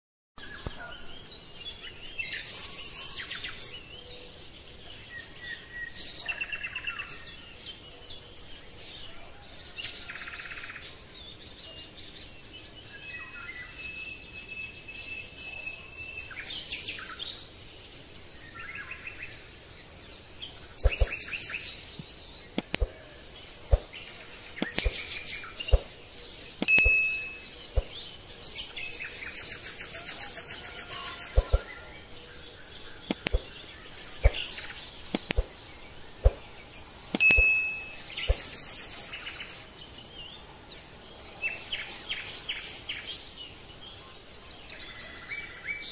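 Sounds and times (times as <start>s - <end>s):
birds chirping and trilling: 0.4s - 45.9s.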